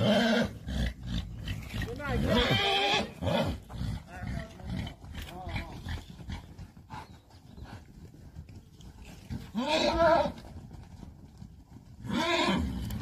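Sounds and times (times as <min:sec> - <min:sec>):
horse calling: 0:00.0 - 0:08.3, 0:09.0 - 0:10.8, 0:11.9 - 0:13.0.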